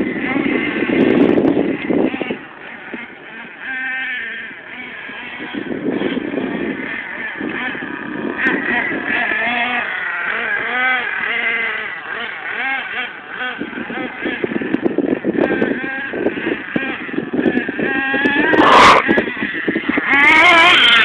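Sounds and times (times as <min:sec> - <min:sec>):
rc buggy engine revving: 0:00.0 - 0:21.0.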